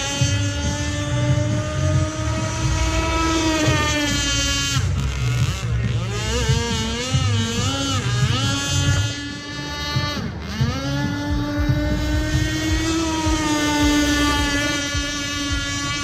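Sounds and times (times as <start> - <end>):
model speedboat motor whining: 0.0 - 16.0.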